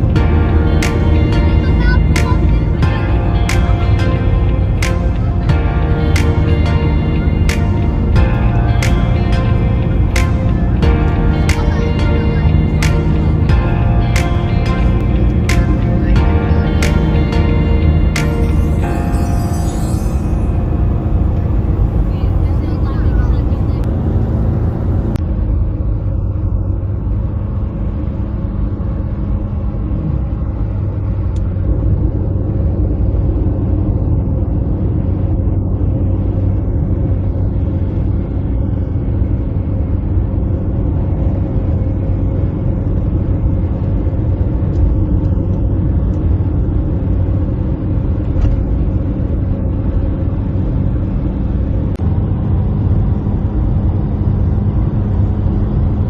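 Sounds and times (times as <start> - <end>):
car engine rumble: 0.0 - 19.1, 20.4 - 56.0
low hum: 0.0 - 56.0
road noise: 0.0 - 56.0.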